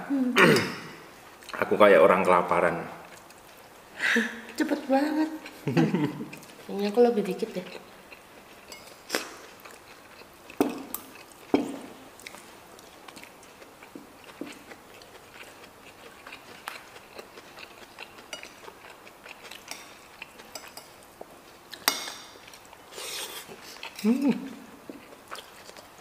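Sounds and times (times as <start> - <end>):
soft chewing: 3.0 - 26.0.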